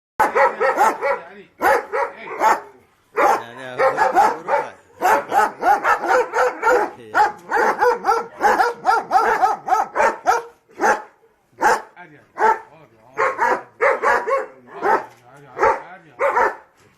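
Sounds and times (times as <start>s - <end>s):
dogs barking: 0.2s - 16.8s.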